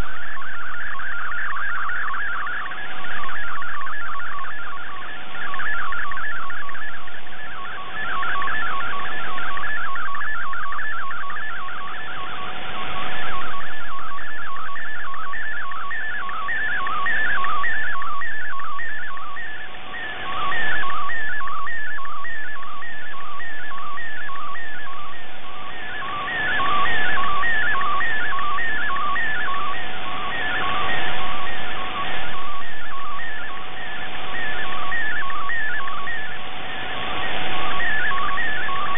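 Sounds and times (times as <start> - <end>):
warbling data tones: 0.0 - 38.9.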